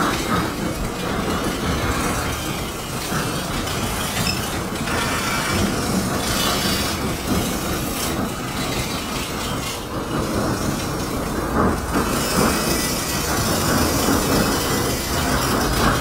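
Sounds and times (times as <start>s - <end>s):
freight train wheels rattling: 0.0s - 16.0s.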